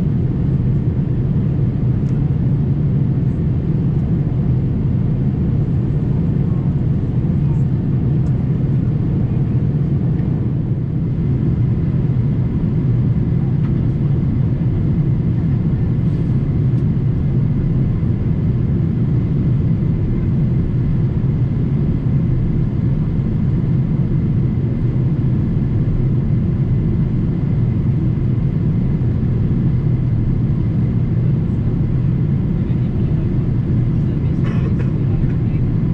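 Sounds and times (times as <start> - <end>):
airplane cabin low rumble: 0.0 - 35.9.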